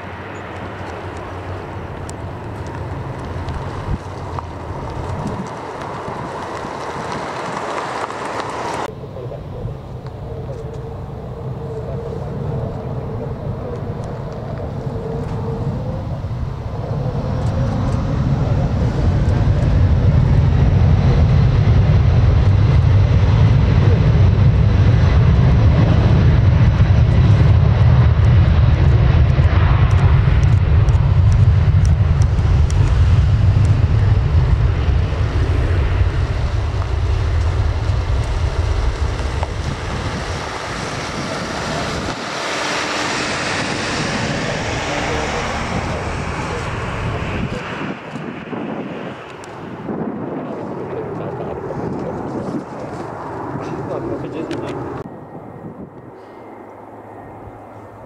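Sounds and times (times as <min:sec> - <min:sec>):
jet engines roaring at take-off: 0:00.0 - 0:58.0.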